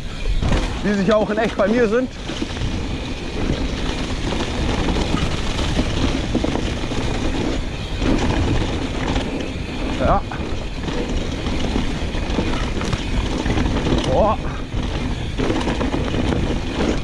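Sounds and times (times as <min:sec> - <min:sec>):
bike rattling over bumps: 0:00.0 - 0:17.0
bike tyres rumbling: 0:00.0 - 0:17.0.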